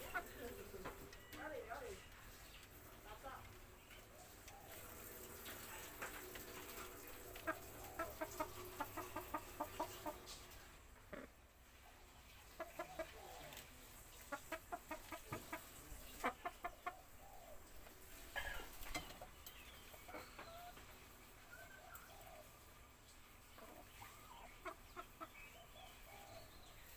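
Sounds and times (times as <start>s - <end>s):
chickens clucking: 0.0s - 26.9s.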